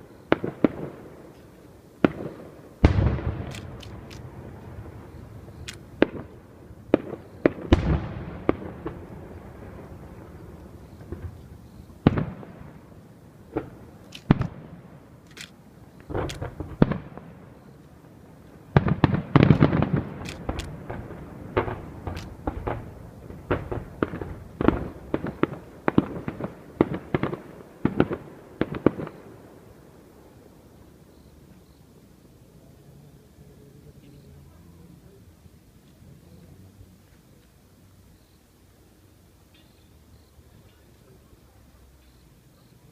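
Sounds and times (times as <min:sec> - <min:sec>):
fireworks bursting: 0:00.0 - 0:35.2.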